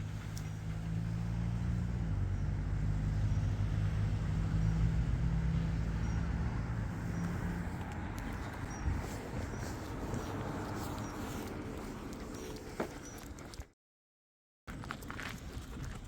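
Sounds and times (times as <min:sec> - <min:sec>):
vehicle engine humming: 0:00.0 - 0:13.5.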